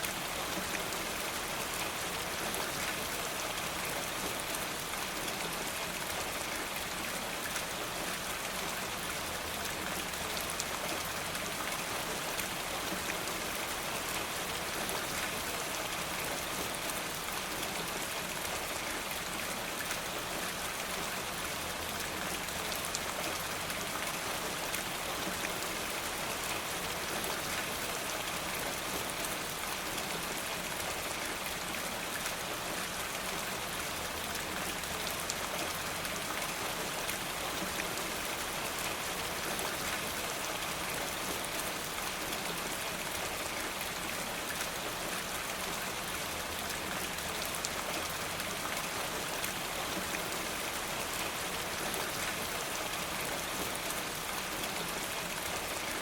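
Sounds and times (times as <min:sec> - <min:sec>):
steady rain with drop ticks: 0:00.0 - 0:56.0.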